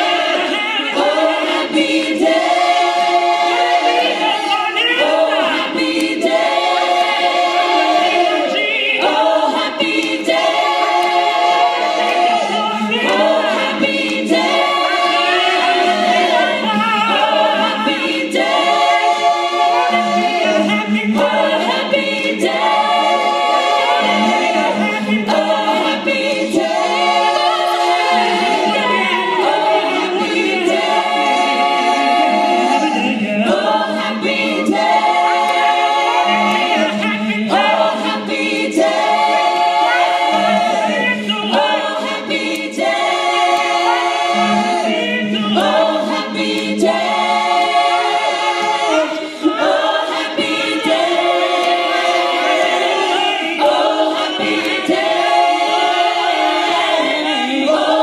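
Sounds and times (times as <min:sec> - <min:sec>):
vocal group singing in harmony: 0:00.0 - 0:58.0.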